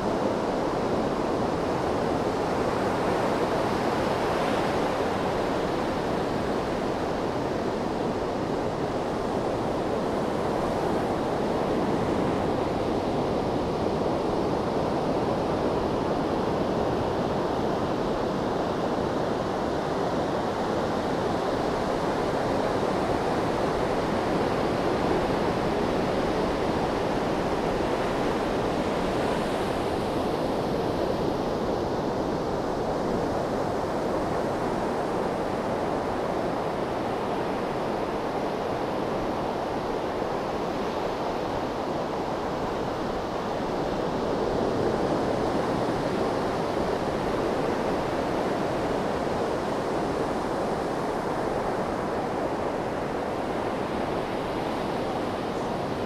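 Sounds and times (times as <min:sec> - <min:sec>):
gentle ocean surf: 0:00.0 - 0:56.0.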